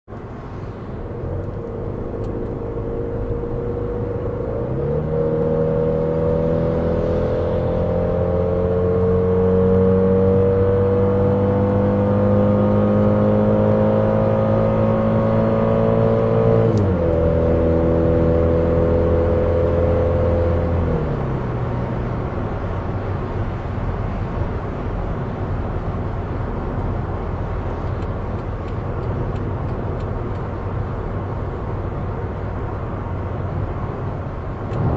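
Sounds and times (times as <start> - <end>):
road and tyre noise: 0.0 - 34.9.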